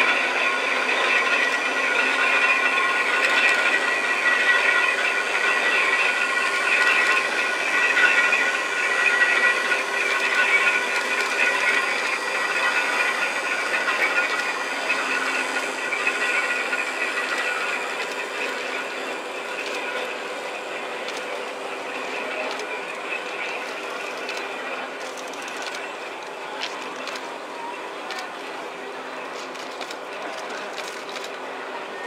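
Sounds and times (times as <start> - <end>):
turntable machinery whining: 0.0 - 32.0.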